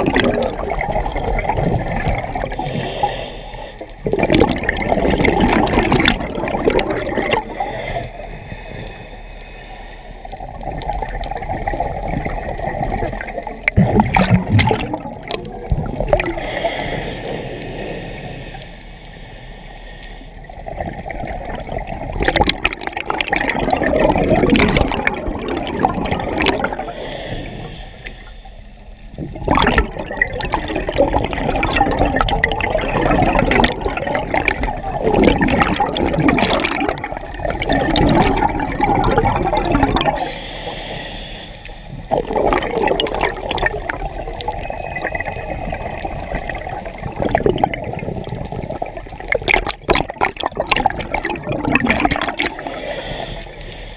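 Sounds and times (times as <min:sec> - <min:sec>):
regulator bubbles gurgling underwater: 0:00.0 - 0:53.9.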